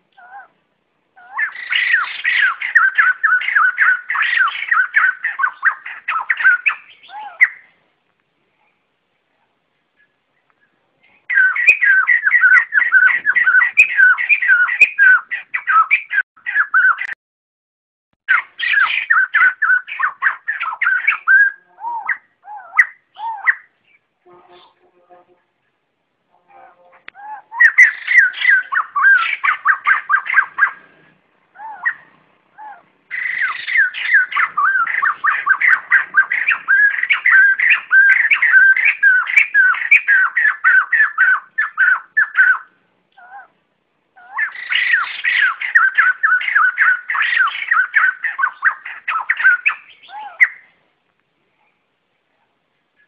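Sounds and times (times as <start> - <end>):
birds chattering calls: 1.1 - 7.8, 10.0 - 17.2, 18.3 - 24.9, 26.6 - 50.8.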